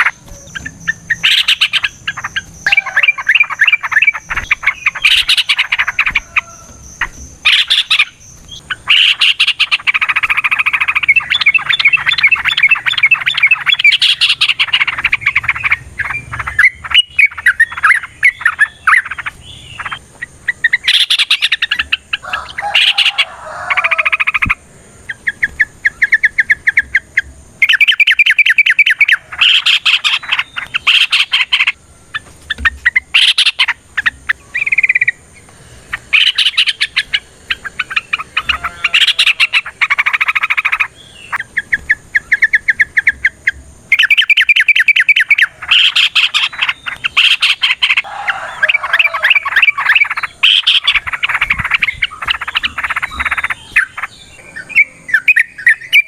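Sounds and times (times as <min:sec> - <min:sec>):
bird song with chattering notes: 0:00.0 - 0:56.0.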